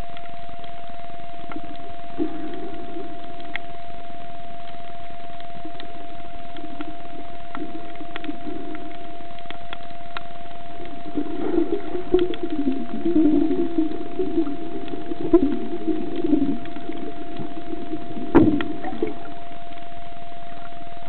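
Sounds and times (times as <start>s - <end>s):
murmur of moving water: 0.0s - 21.0s
steady high hum underwater: 0.0s - 21.0s.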